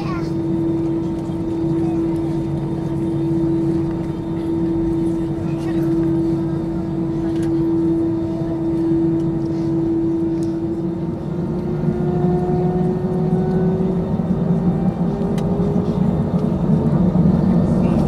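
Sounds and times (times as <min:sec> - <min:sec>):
jet engines droning and whining: 0:00.0 - 0:18.0.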